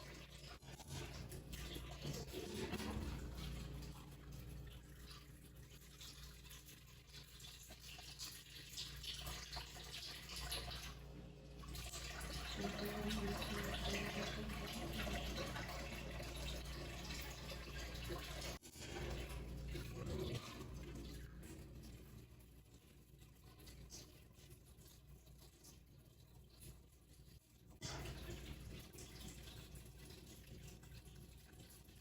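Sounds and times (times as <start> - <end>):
tap water running into sink: 0.0 - 32.0.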